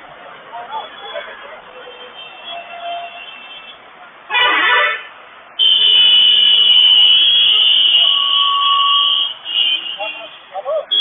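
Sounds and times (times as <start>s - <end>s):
vehicle horn honking: 1.9s - 11.0s.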